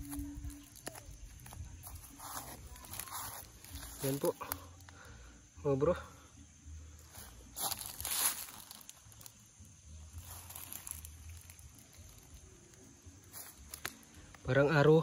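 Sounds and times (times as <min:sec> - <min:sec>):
dry grass rustling: 0:00.0 - 0:05.0, 0:06.9 - 0:14.5.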